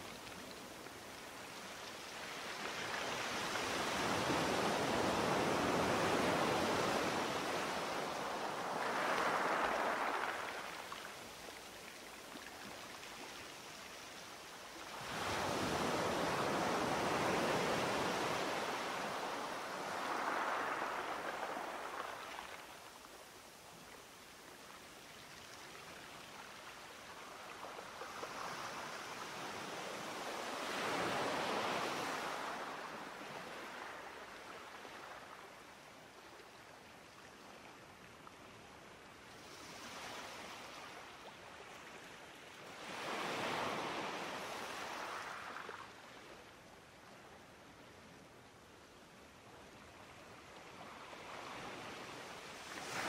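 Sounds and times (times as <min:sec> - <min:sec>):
sea waves washing ashore: 0:00.0 - 0:35.6, 0:39.1 - 0:46.4, 0:50.4 - 0:53.0.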